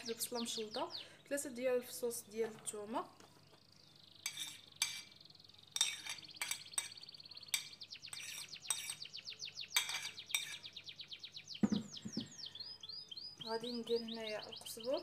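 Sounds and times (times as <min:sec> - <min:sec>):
songbird chirps and trill: 0:00.0 - 0:15.0.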